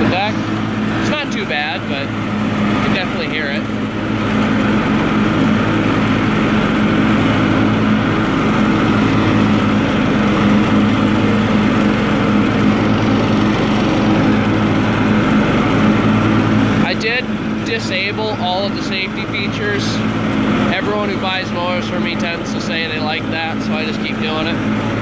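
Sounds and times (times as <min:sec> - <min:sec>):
lawn tractor engine running: 0:00.0 - 0:25.0
mowing deck whirring: 0:00.0 - 0:25.0.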